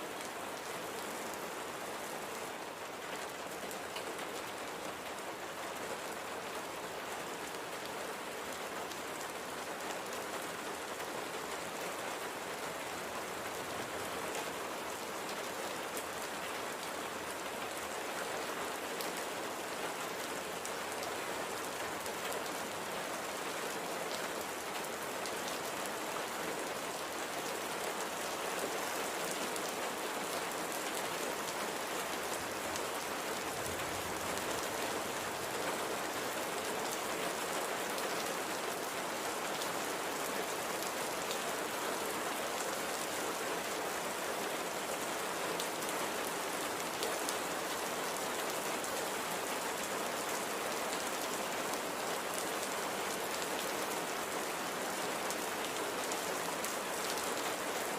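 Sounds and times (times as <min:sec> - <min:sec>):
light rain falling: 0:00.0 - 0:57.9.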